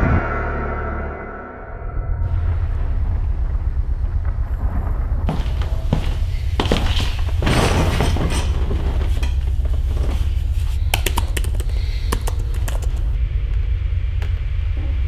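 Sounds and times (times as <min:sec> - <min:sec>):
loud low drone: 0:00.0 - 0:15.0.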